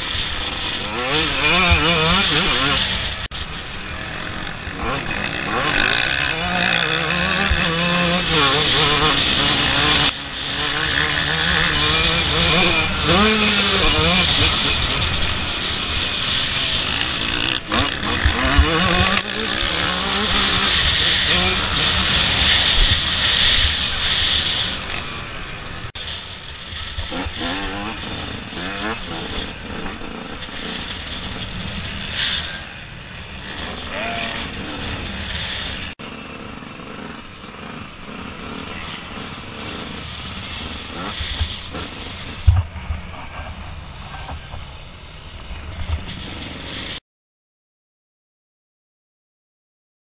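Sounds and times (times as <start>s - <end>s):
motocross engine revving: 0.0s - 47.0s.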